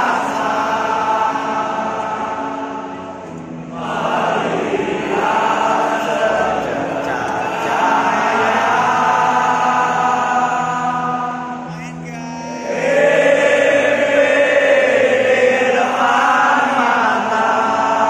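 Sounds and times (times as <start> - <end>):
crowd singing a chant: 0.0 - 18.0.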